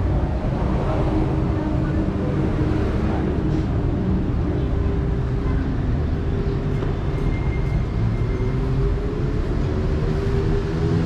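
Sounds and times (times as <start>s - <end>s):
city street traffic rumble: 0.0s - 11.0s.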